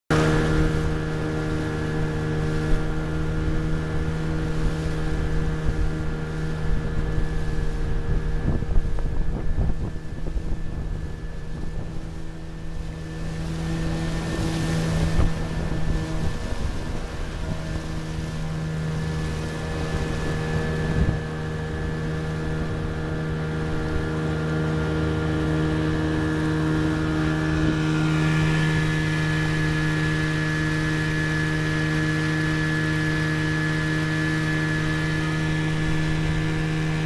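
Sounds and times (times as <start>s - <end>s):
outboard motor running: 0.1s - 37.0s
water rushing along hull: 0.1s - 37.0s.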